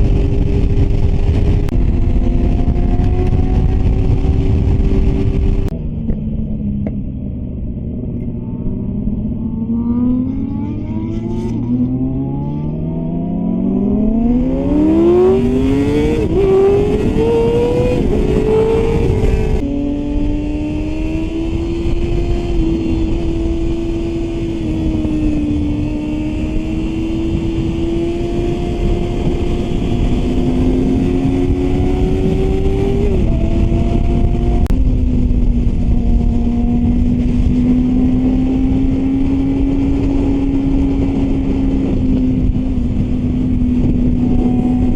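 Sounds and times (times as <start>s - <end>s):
sportbike engine accelerating: 0.0s - 44.9s
wind rush: 0.0s - 44.9s.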